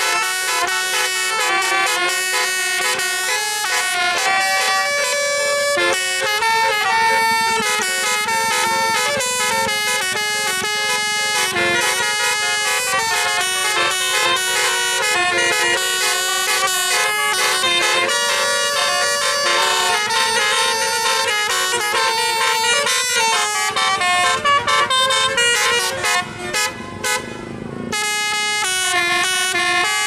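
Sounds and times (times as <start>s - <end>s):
multi-tone bus horns melody: 0.0s - 30.0s.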